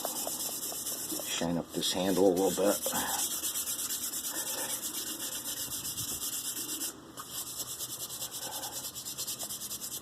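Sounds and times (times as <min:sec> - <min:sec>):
sandpaper rubbing wood: 0:00.0 - 0:01.3, 0:02.0 - 0:10.0.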